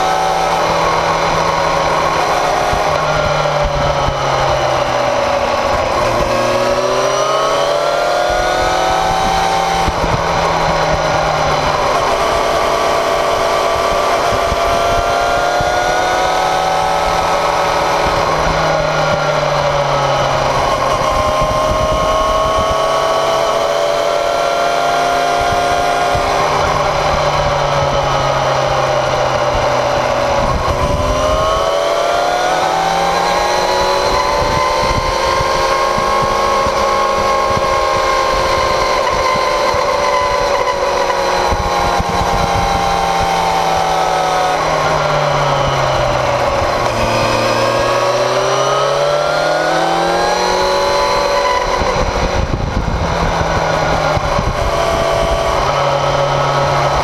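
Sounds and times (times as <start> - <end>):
motorcycle engine and exhaust: 0.0 - 57.0
tyre and wind noise: 0.0 - 57.0.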